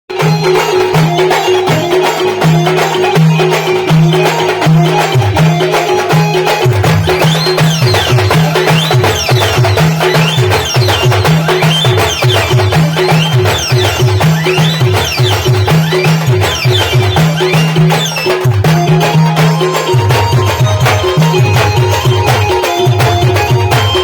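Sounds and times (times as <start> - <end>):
loud band music: 0.1 - 24.0.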